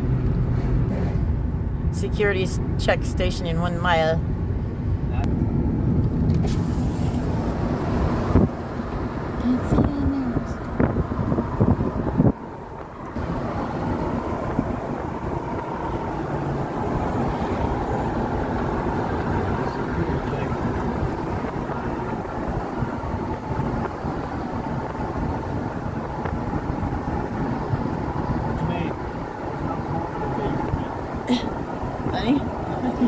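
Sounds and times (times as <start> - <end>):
road and engine noise inside van: 0.0 - 33.0.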